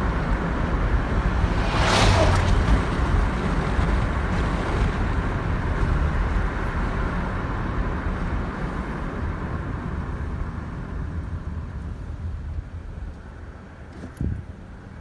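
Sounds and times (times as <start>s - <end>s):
car engine low rumble: 0.0s - 15.0s
road noise: 0.0s - 15.0s.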